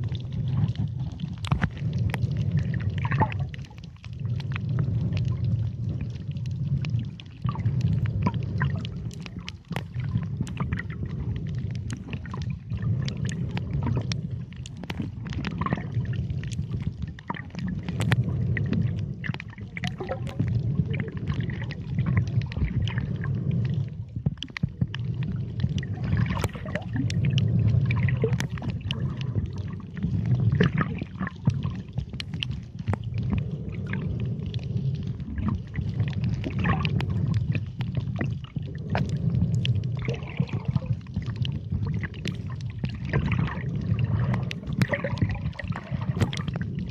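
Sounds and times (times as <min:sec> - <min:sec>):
low rumbling underwater noise: 0:00.0 - 0:46.9
sharp underwater clicks: 0:00.5 - 0:46.9.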